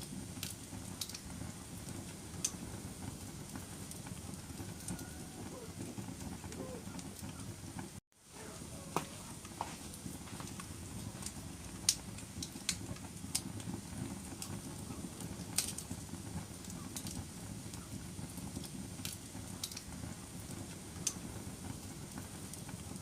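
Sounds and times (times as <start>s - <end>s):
fire crackling in fireplace: 0.0s - 23.0s.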